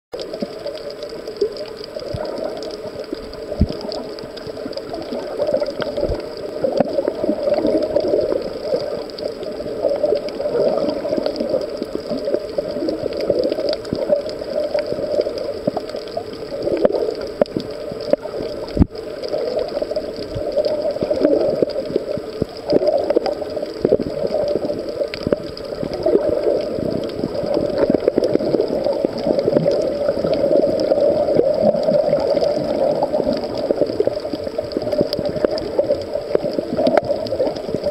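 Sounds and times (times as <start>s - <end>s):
muffled underwater gurgling: 0.2s - 37.9s.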